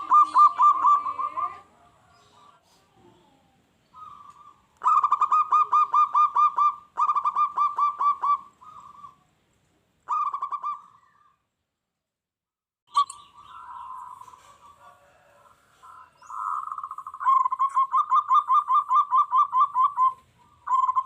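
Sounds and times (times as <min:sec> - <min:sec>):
dove cooing: 0:00.0 - 0:09.3, 0:10.1 - 0:11.4, 0:13.0 - 0:21.0.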